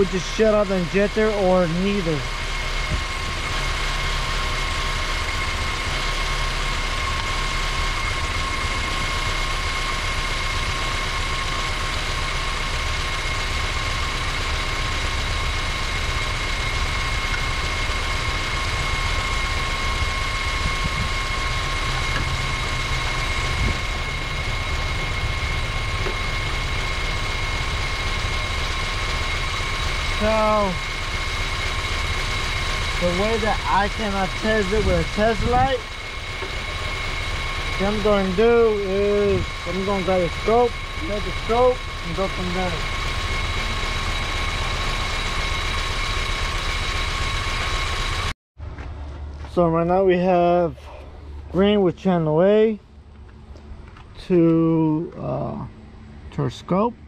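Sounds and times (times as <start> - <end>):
car engine idling with misfire: 0.0 - 57.0
high whine: 0.0 - 57.0.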